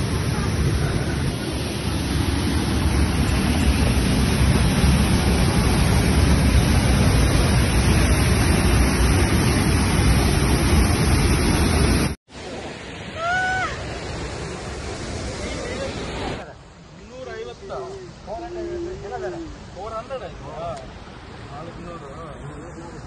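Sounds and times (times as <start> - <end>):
quiet running water: 0.0 - 23.0
waterfall rushing: 0.0 - 23.0.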